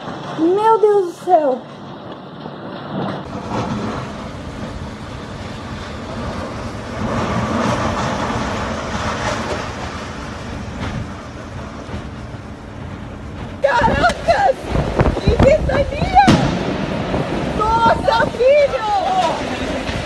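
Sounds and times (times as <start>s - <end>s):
strong wind blowing: 0.0s - 20.0s.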